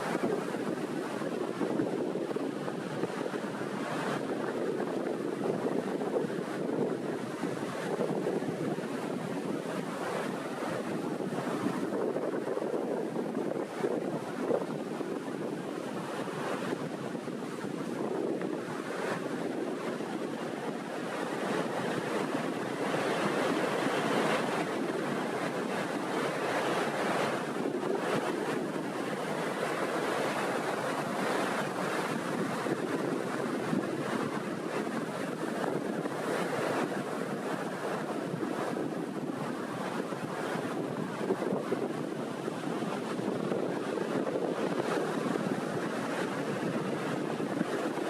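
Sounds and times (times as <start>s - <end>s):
waves breaking on rocky shore: 0.0s - 48.0s
wind on microphone: 0.0s - 48.0s.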